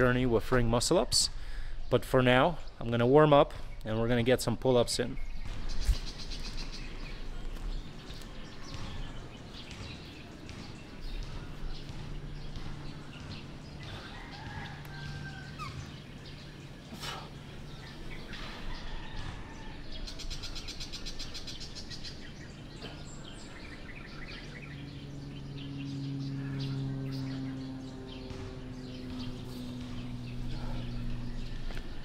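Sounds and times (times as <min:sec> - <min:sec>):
birds chirping: 0:00.0 - 0:32.0
low steady hum: 0:00.0 - 0:32.0.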